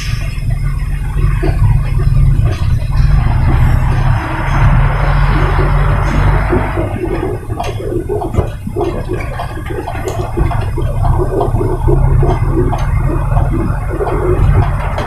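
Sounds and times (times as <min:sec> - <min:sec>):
irregular churning noise: 0:00.0 - 0:15.0
truck engine and road rumble: 0:00.0 - 0:15.0.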